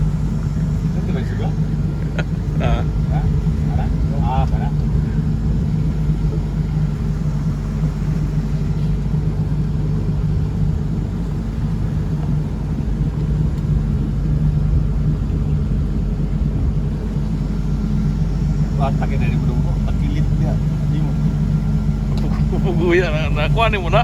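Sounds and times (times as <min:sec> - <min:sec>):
boat engine droning: 0:00.0 - 0:24.0
rushing wind: 0:00.0 - 0:24.0
water rushing: 0:00.0 - 0:24.0.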